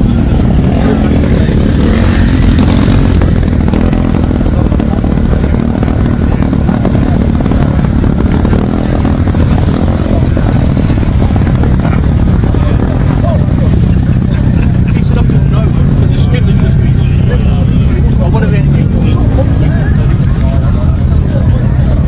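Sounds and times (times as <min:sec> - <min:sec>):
many motorcycle engines running: 0:00.0 - 0:22.0.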